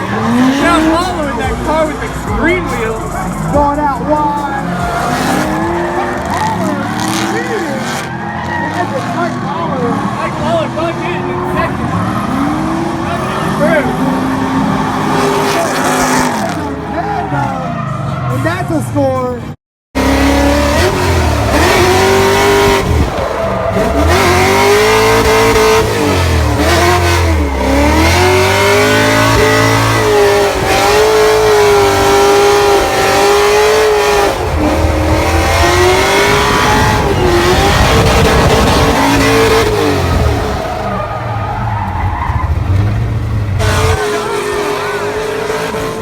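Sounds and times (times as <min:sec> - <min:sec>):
car engine revving hard: 0:00.0 - 0:17.4, 0:20.0 - 0:46.0.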